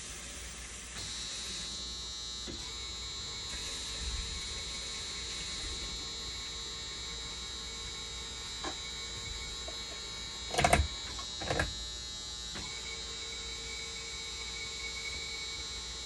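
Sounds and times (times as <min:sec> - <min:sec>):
electrical hum with whine: 0:00.0 - 0:16.0.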